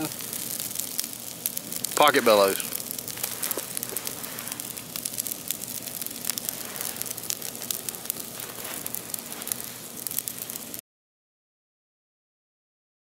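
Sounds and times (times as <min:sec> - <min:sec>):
campfire crackling and popping: 0:00.0 - 0:10.8.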